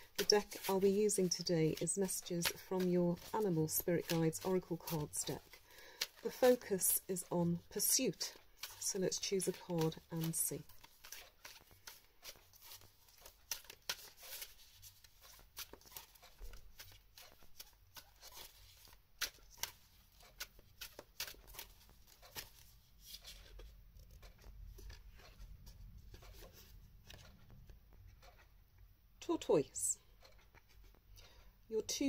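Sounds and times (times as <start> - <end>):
cards being shuffled: 0.0 - 27.6.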